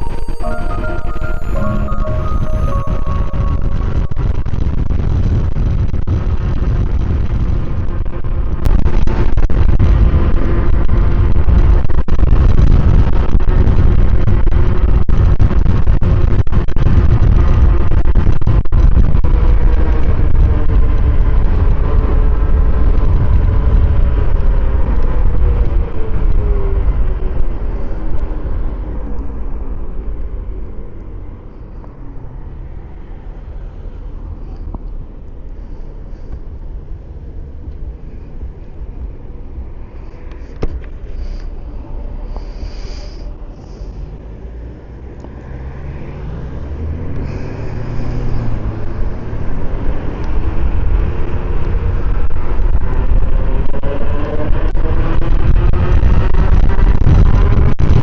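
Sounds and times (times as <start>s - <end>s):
electric scooter wind and road rumble: 3.2s - 58.0s.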